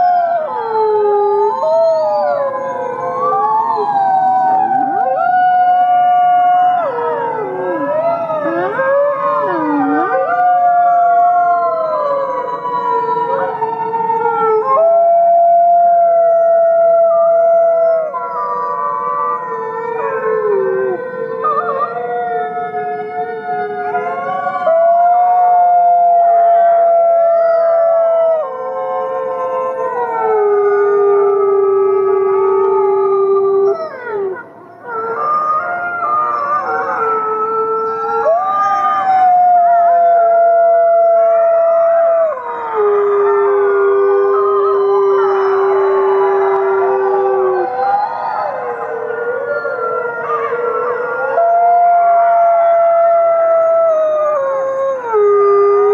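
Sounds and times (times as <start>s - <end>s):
single wolf howling loudly: 0.0s - 55.9s
wolves howling in chorus: 0.0s - 55.9s.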